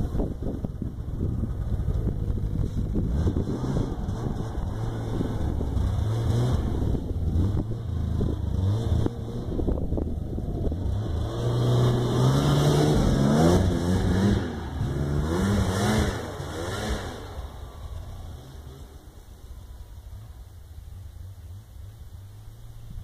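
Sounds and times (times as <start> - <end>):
snowmobile engine revving: 0.0 - 20.4.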